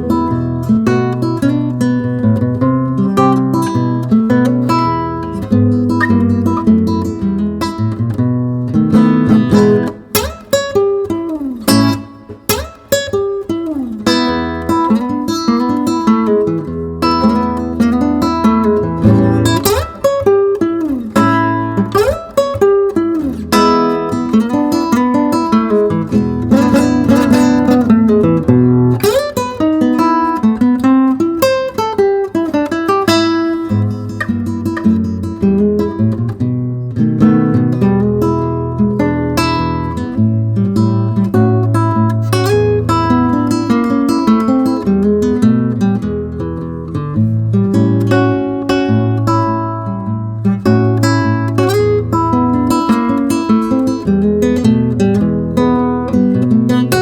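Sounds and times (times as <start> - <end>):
plucked and strummed guitar: 0.0 - 57.0.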